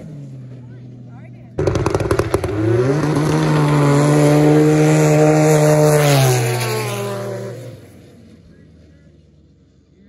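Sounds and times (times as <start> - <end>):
snowmobile engine at full throttle: 0.0 - 10.0.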